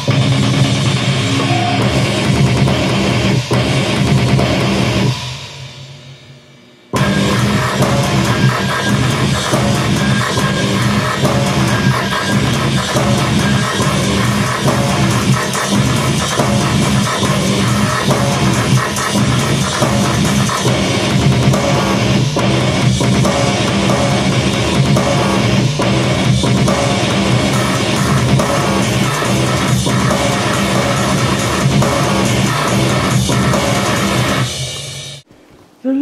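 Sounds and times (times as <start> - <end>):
heavy drum-driven music: 0.0 - 35.3.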